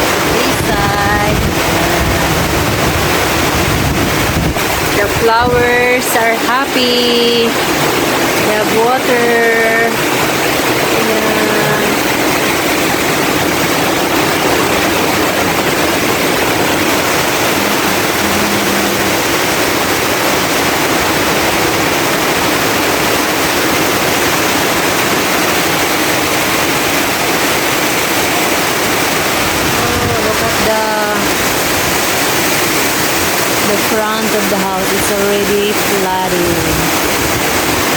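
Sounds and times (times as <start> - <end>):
heavy rain pouring: 0.0 - 37.9.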